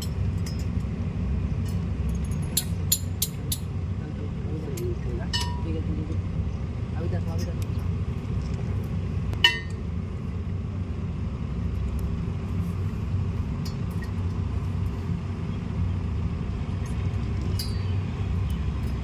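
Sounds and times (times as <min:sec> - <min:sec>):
low machine drone: 0:00.0 - 0:19.0.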